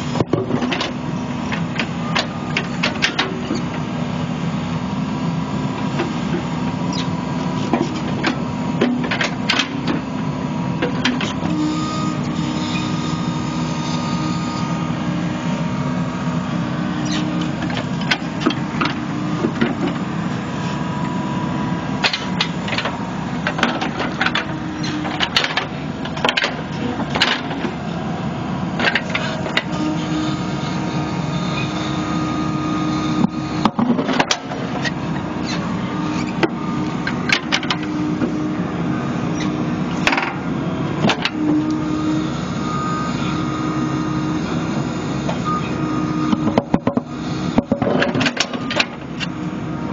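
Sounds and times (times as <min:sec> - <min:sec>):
excavator diesel engine: 0:00.0 - 0:49.9
hydraulic whine: 0:00.0 - 0:49.9.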